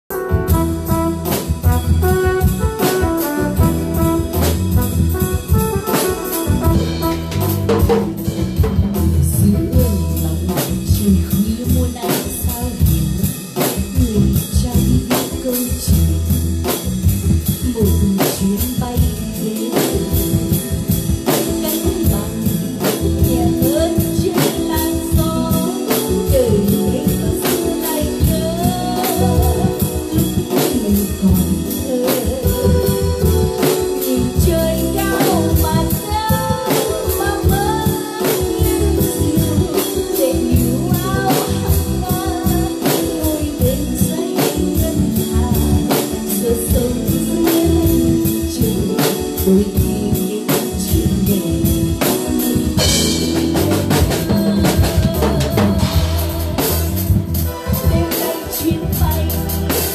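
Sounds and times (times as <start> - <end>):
acoustic drum kit playing: 0.0 - 59.9
recorded band accompaniment: 0.0 - 59.9.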